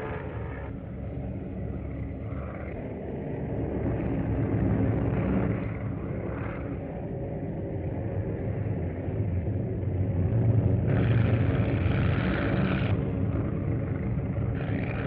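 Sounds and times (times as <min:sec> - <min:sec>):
propeller airplane engines droning: 0:00.0 - 0:15.0.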